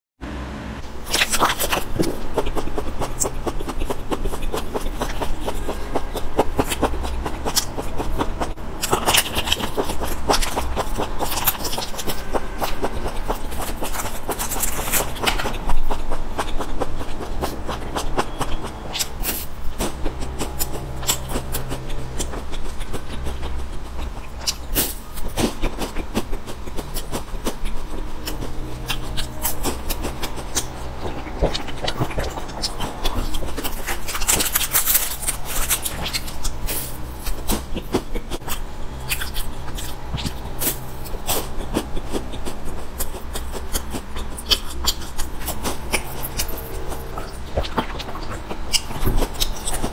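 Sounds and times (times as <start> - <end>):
crunchy snack chewing: 0.8 - 49.9.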